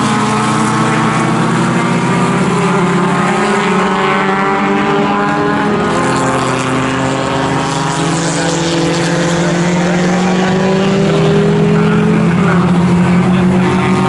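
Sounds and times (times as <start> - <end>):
racing car engines at high revs: 0.0 - 14.0.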